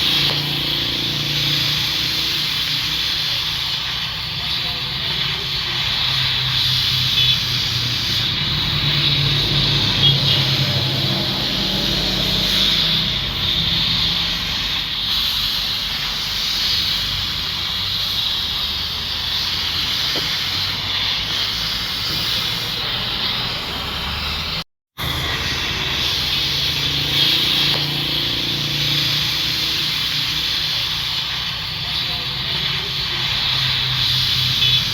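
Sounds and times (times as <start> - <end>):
arc welding crackling hiss: 0.0 - 34.9.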